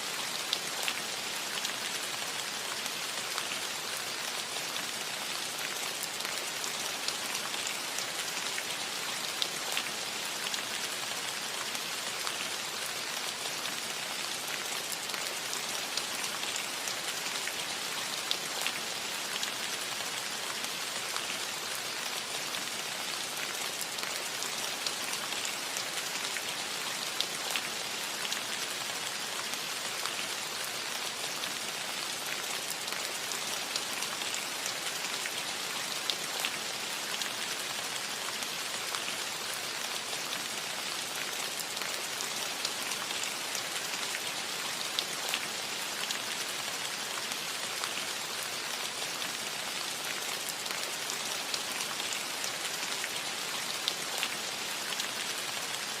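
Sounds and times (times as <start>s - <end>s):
rain on a roof: 0.0s - 56.0s.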